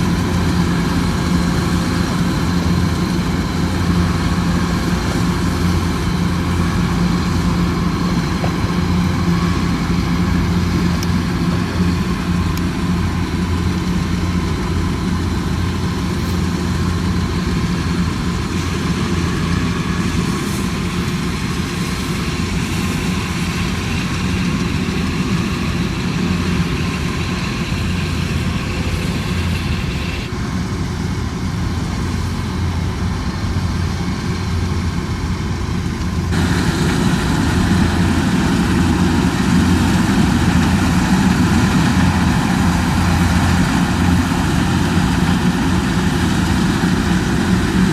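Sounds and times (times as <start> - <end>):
combine harvester engine running: 0.0 - 47.9.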